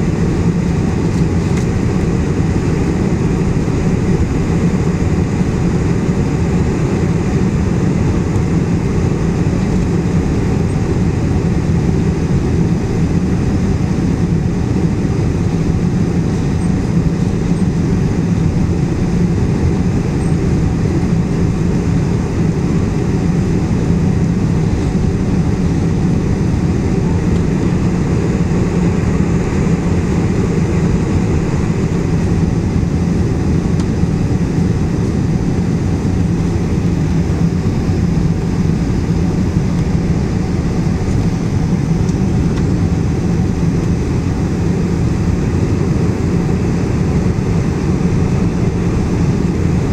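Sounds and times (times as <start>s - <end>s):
airliner engine drone: 0.0s - 49.9s.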